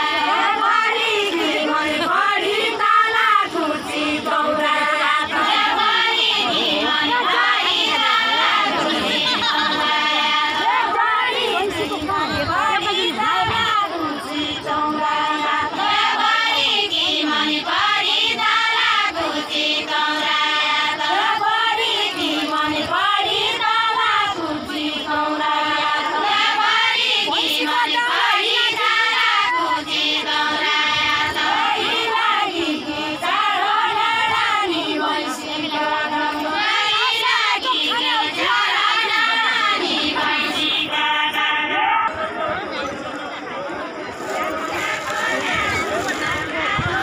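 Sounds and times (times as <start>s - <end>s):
women singing folk song: 0.0s - 42.6s, 44.5s - 47.0s.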